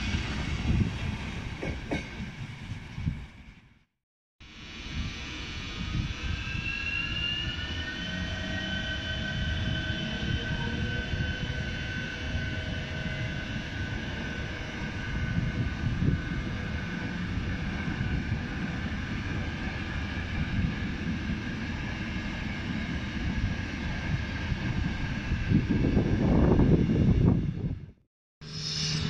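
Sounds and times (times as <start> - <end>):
electric locomotive whine: 4.4 - 29.0.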